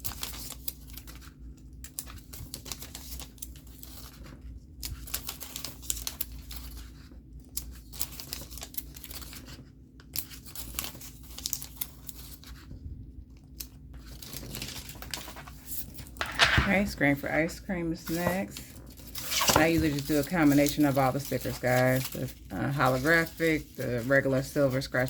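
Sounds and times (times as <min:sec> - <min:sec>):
stickers peeling and crinkling: 0:00.0 - 0:12.7, 0:13.3 - 0:25.0.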